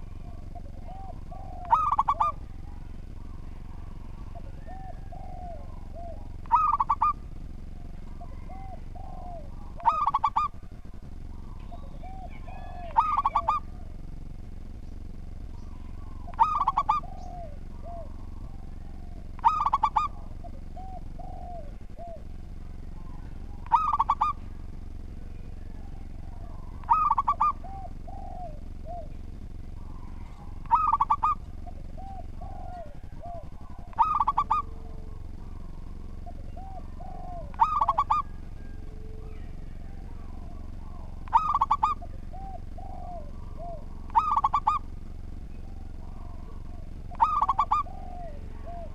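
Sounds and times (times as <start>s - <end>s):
dove cooing song: 0.0s - 48.9s
steady low hum: 0.0s - 48.9s.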